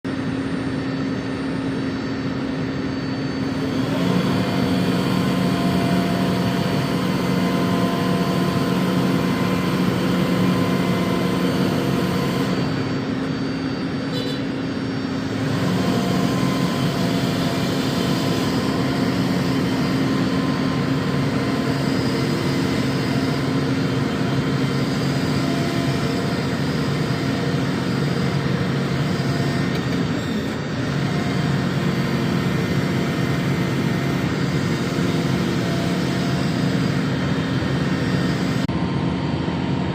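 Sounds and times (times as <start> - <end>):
airliner whine and rush: 0.1 - 39.9
motor hum: 0.1 - 39.9.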